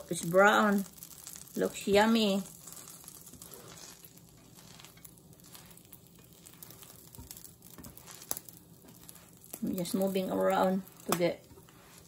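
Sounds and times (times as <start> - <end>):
butter sizzling in a frying pan: 0.0 - 12.0
utensils tapping on a pan: 0.3 - 12.0.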